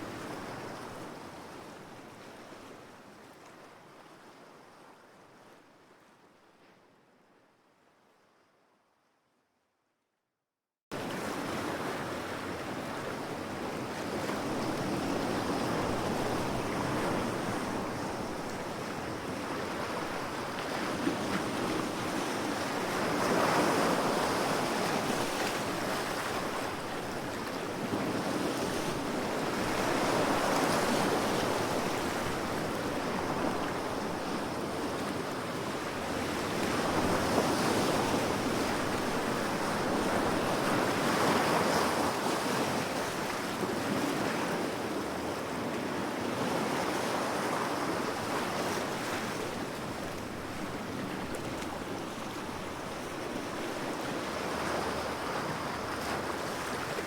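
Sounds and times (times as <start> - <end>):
ocean waves breaking on shore: 11.0 - 57.0.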